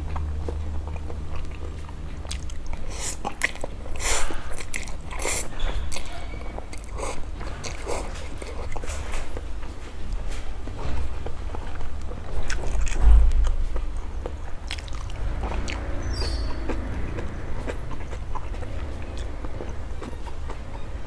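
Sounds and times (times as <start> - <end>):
chewing and mouth sounds: 0.0 - 21.0
steady low hum: 0.0 - 21.0.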